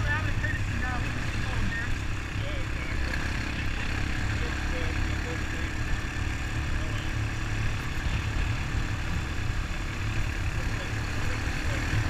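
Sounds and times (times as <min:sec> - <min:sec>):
atv engine running: 0:00.0 - 0:12.0
road and rushing noise: 0:00.0 - 0:12.0.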